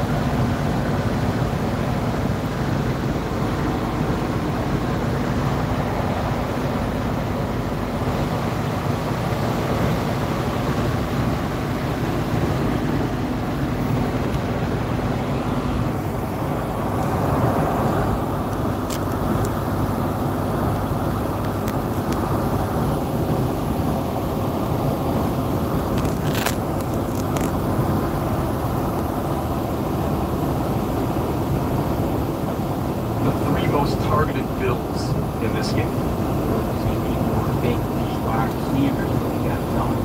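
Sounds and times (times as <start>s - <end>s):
diesel truck engine drone: 0.0s - 40.0s
road noise inside cab: 0.0s - 40.0s.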